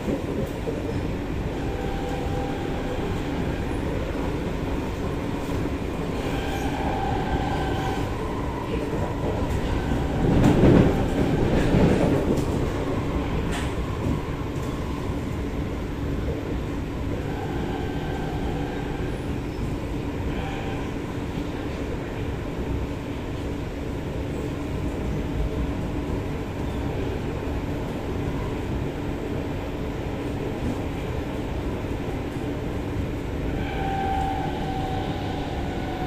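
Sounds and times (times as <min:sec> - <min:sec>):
wheels rumbling on rail: 0:00.0 - 0:36.0.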